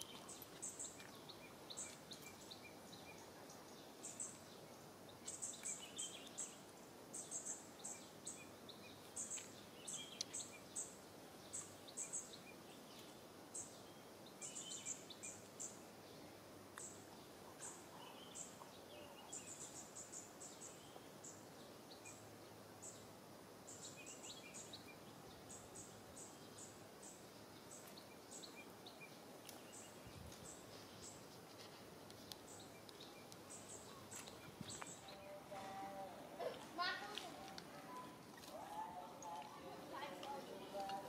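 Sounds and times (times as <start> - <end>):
soft steady hiss: 0.0 - 41.0.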